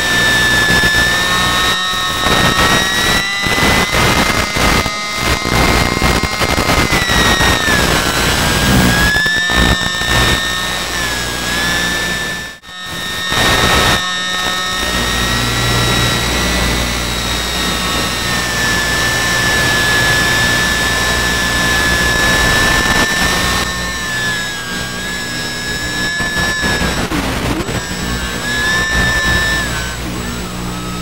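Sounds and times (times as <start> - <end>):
small electric motor whining: 0.0 - 31.0.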